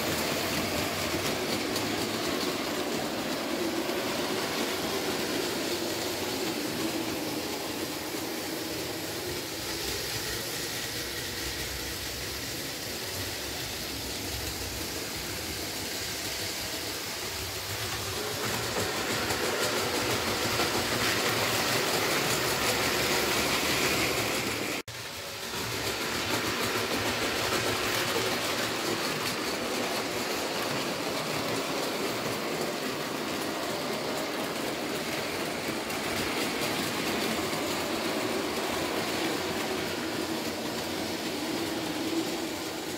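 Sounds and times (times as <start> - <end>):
model train clattering on track: 0.0 - 42.9.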